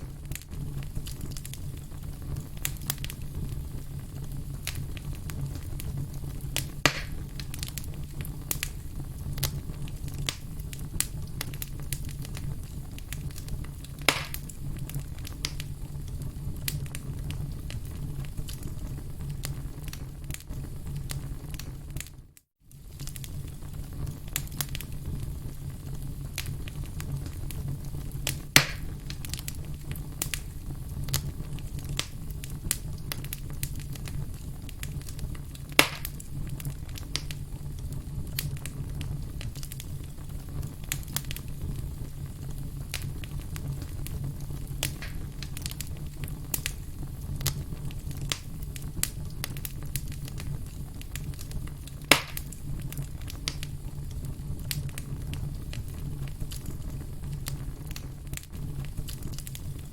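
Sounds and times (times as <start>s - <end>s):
burning wood popping: 0.0s - 59.9s
campfire crackling: 0.0s - 59.9s.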